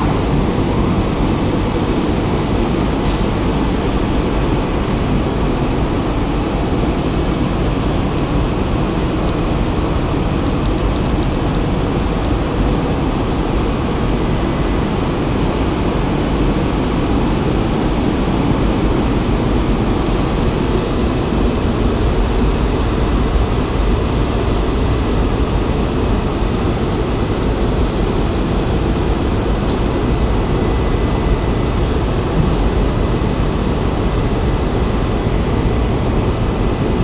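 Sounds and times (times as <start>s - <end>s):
plant machinery rumble and hiss: 0.0s - 37.0s.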